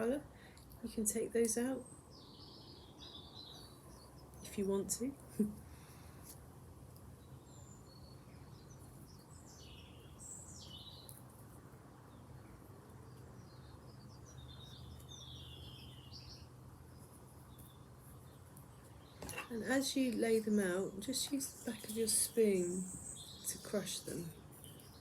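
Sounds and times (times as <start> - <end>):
faint birds chirping: 0.0 - 25.0
low background hum: 0.0 - 25.0.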